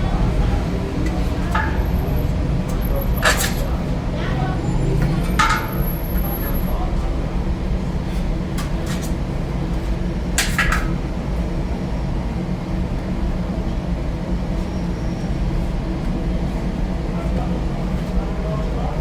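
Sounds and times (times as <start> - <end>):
low mechanical drone: 0.0 - 19.0.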